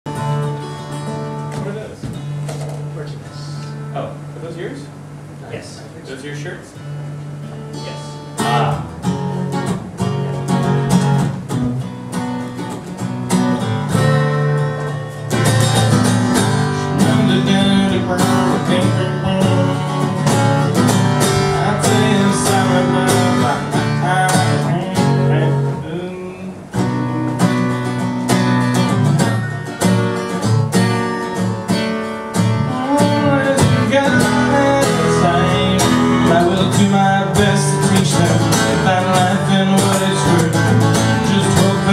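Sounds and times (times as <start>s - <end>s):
acoustic guitar music: 0.0s - 5.4s, 6.2s - 41.9s.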